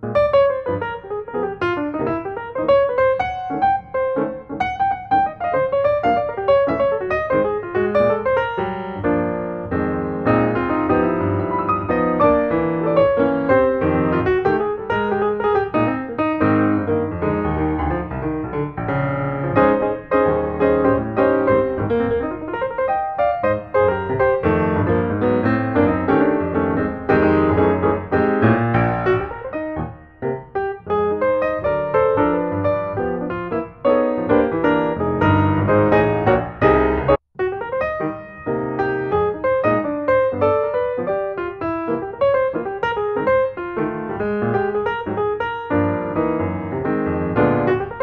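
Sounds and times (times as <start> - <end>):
gentle piano melody: 0.0 - 48.0.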